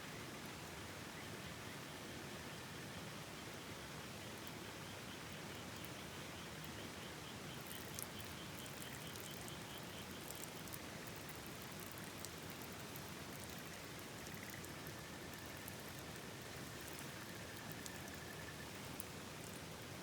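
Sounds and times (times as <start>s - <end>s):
rain with light ticks: 0.1s - 20.0s.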